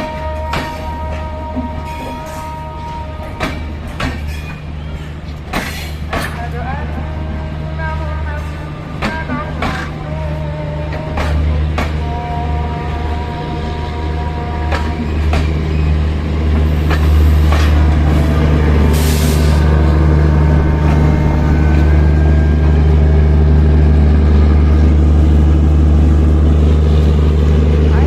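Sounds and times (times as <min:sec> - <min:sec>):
train running drone: 0:00.0 - 0:28.0.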